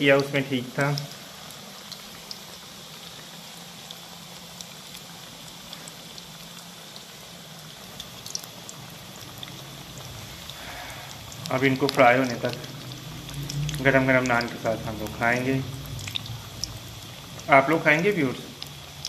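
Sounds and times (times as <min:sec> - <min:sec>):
deep-frying sizzle with pops: 0:00.0 - 0:19.0.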